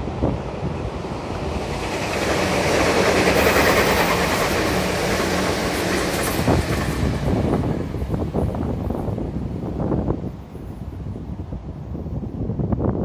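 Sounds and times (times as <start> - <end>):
electric train passing: 0.0 - 12.2.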